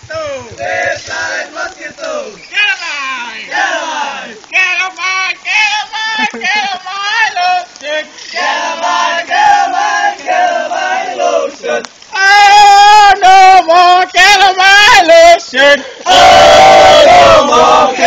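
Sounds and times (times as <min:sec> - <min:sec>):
group of people singing: 0:00.0 - 0:04.8, 0:05.6 - 0:18.0.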